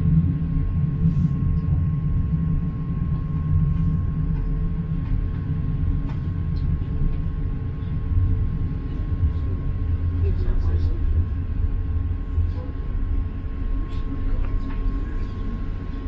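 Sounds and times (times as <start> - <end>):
train diesel engine rumble: 0.0 - 16.0.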